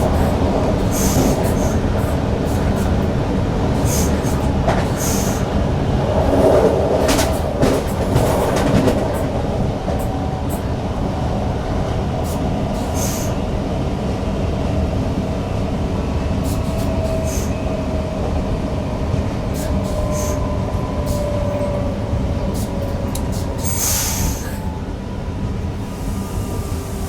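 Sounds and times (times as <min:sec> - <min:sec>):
train rumbling in cab: 0:00.0 - 0:27.0.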